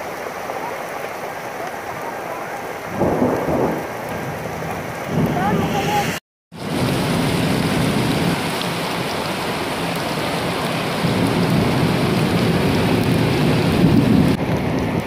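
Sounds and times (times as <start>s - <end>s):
heavy rain: 0.0s - 15.0s
vehicle on wet road: 0.0s - 15.0s.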